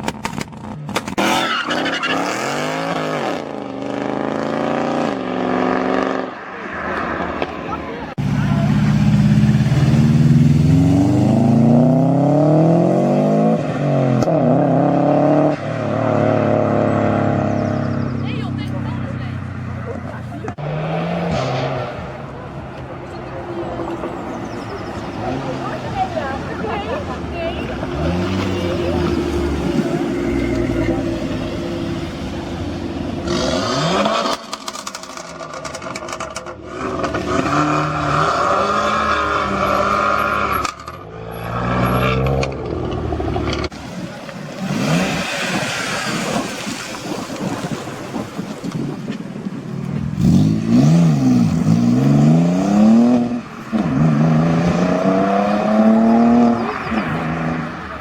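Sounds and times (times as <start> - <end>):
car engines revving and accelerating: 0.0 - 58.0.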